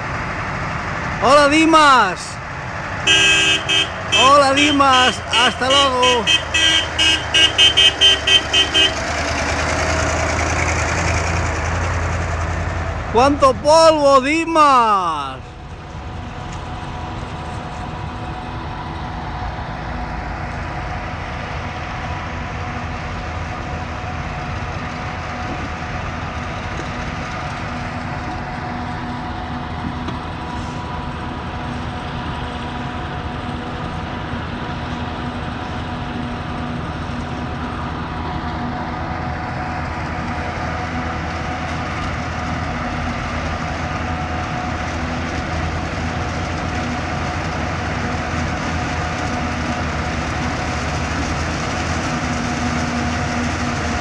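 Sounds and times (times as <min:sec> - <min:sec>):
heavy harvest machinery drone: 0:00.0 - 0:54.0.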